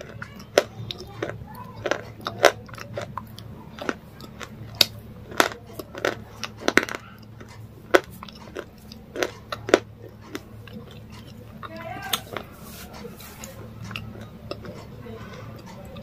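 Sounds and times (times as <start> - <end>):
chewing and mouth smacks: 0.0 - 16.0
crunchy bites: 0.0 - 16.0
steady low hum: 0.0 - 16.0.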